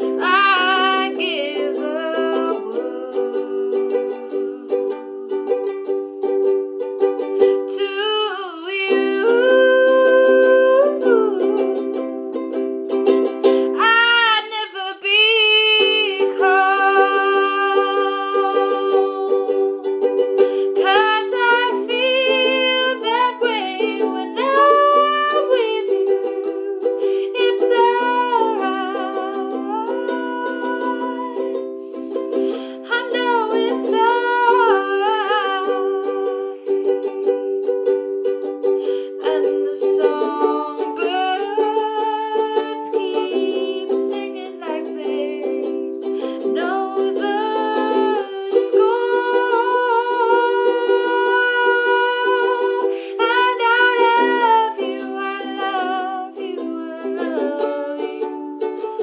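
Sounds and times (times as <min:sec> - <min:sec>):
person singing slow melody: 0:00.0 - 0:06.3, 0:07.3 - 0:12.7, 0:15.8 - 0:59.0
ukulele chords: 0:00.0 - 0:59.0.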